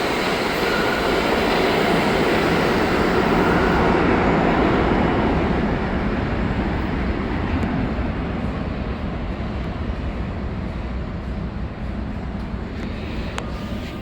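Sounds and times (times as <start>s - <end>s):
subway train rumbling past: 0.0s - 14.0s.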